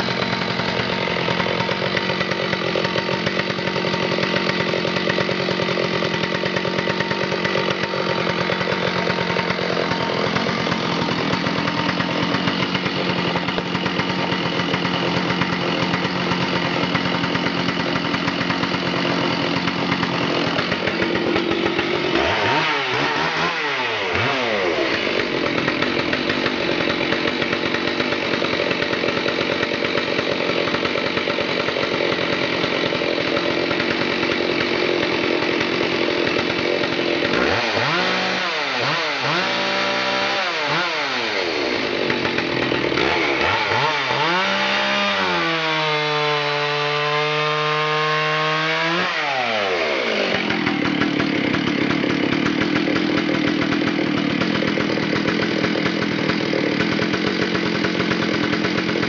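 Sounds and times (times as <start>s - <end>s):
chainsaw cutting and revving: 0.0s - 59.0s.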